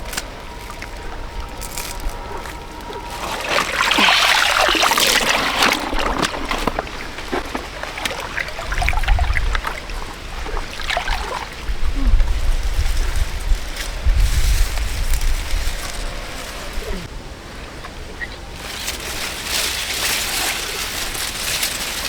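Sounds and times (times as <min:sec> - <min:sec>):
water splashing and trickling: 0:00.0 - 0:17.0, 0:18.5 - 0:22.0.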